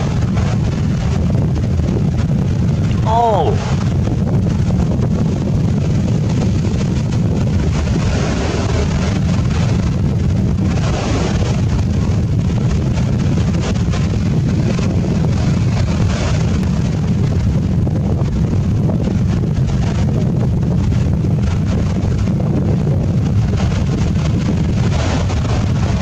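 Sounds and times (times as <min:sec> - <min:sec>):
ocean surf breaking: 0:00.0 - 0:26.0
wind buffeting microphone: 0:00.0 - 0:26.0.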